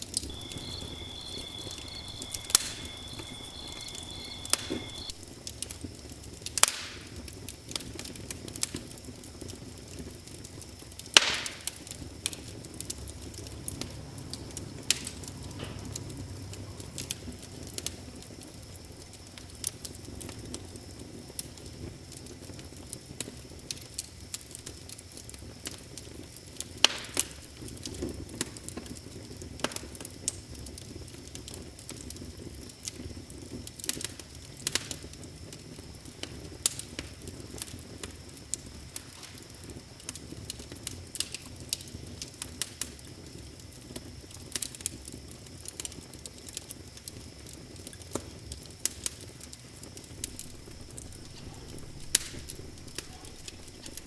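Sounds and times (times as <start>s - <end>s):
low rustle of flames: 0.0s - 54.0s
wood fire crackling: 0.0s - 54.0s.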